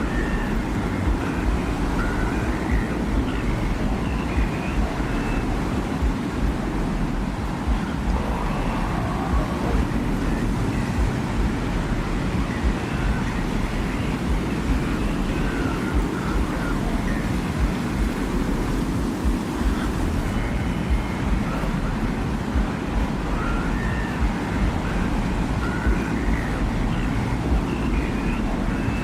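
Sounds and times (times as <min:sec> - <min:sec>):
faint wavering high tones: 0:00.0 - 0:29.0
wind deep rumble: 0:00.0 - 0:29.0.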